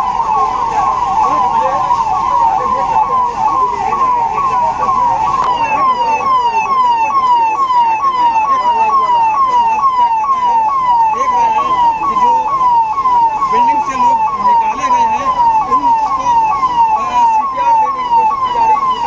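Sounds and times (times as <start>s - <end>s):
police siren wailing: 0.0s - 19.0s.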